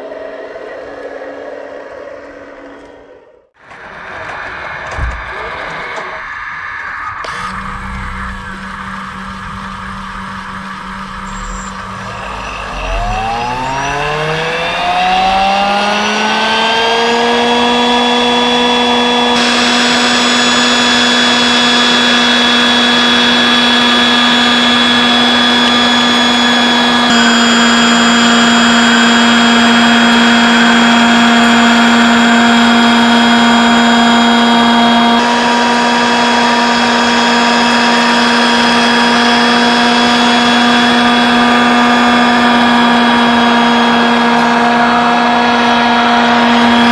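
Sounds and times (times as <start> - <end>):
electric motor whining: 7.2 - 46.9.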